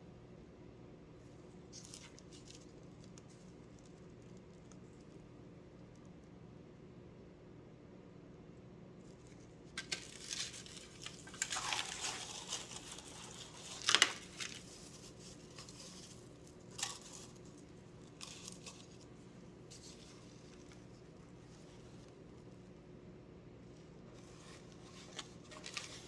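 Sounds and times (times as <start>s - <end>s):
rustling and crinkling: 1.2s - 6.3s, 9.0s - 22.9s, 23.6s - 26.0s.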